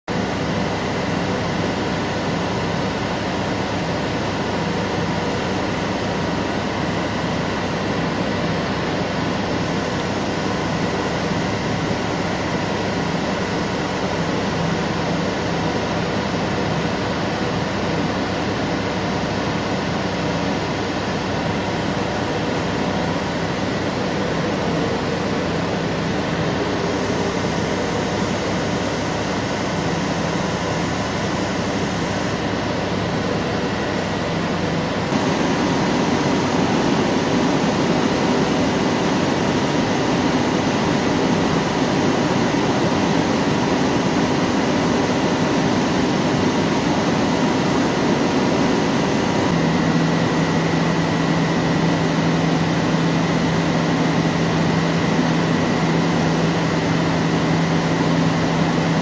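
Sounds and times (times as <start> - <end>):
lathe humming and whining: 0.1 - 59.0.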